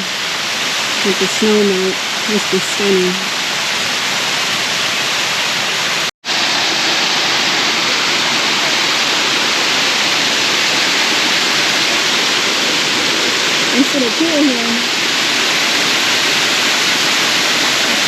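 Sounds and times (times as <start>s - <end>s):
water rushing over a dam: 0.0s - 18.0s.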